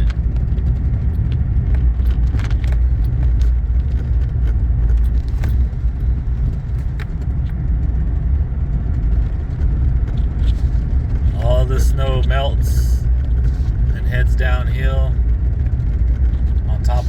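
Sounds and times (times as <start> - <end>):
car road and engine rumble: 0.0 - 17.0
light clicks and rattles: 0.0 - 17.0.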